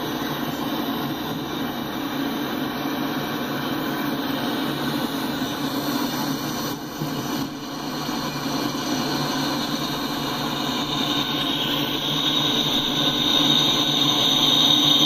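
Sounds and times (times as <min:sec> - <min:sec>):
diesel locomotive engines rumbling: 0:00.0 - 0:15.0
high steady whine: 0:00.0 - 0:15.0.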